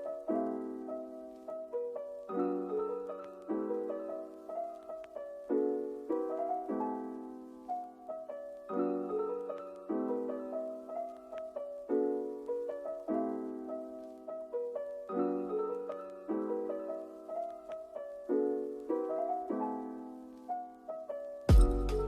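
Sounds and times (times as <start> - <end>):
soft slow piano music: 0.0 - 22.0.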